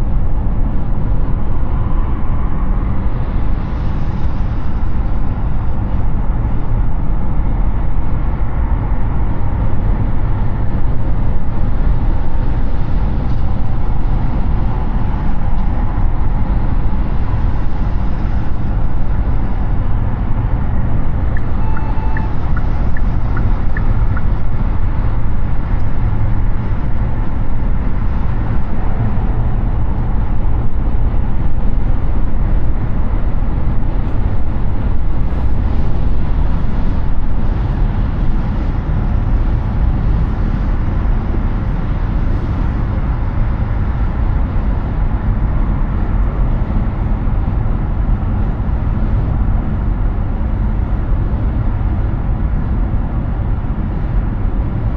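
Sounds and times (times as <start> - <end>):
car road and wind noise: 0.0 - 54.9.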